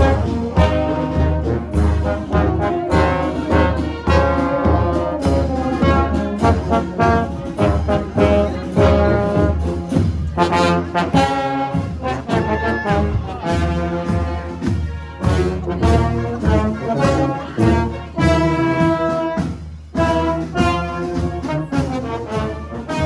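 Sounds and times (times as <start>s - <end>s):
marching brass band playing: 0.0s - 23.0s
steady drum beat: 0.0s - 23.0s
trombones: 0.0s - 23.0s.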